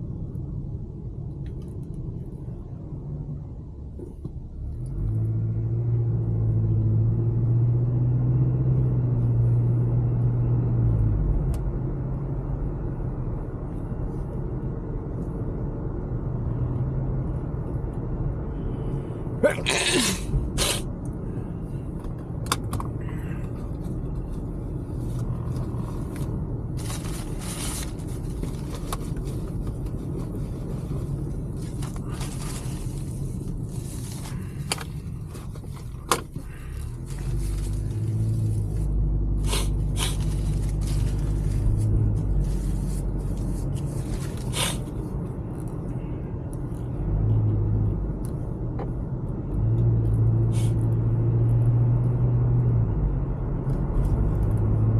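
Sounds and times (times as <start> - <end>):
vehicle engine rumbling: 0.0 - 54.9.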